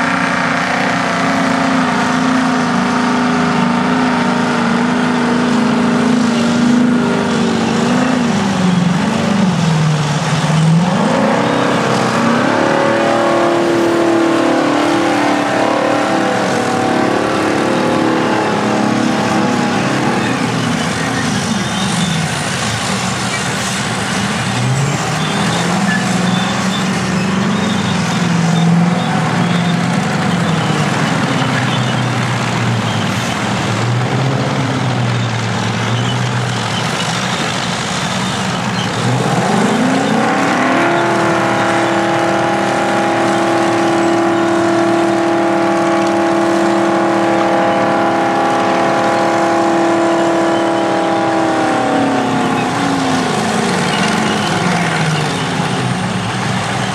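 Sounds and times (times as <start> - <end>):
earthmoving machine engines working: 0.0 - 56.9
engine revving high: 0.0 - 56.9.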